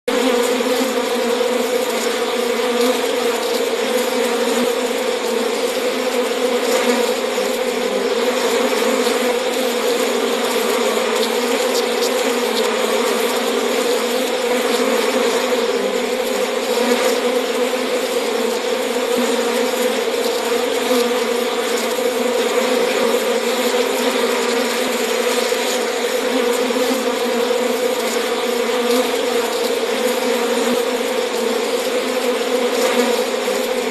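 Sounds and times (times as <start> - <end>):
bee buzzing: 0.1 - 33.9.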